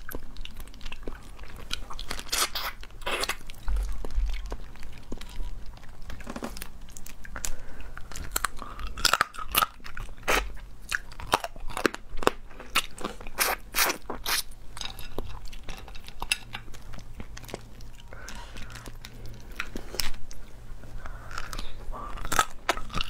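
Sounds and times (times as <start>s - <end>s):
shrimp shells crunching and cracking: 0.0s - 20.2s
person chewing: 0.0s - 23.0s.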